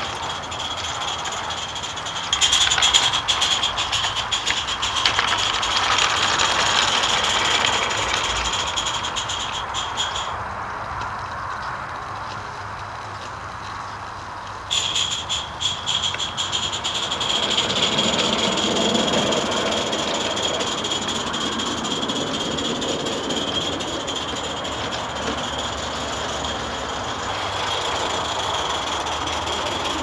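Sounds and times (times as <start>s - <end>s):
steam hissing: 0.0s - 10.5s, 14.7s - 30.0s
steam locomotive puffing: 0.0s - 10.5s, 14.7s - 30.0s.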